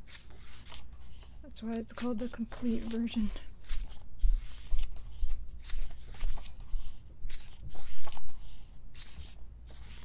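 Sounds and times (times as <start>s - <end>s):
paper pages rustling: 0.0s - 10.0s.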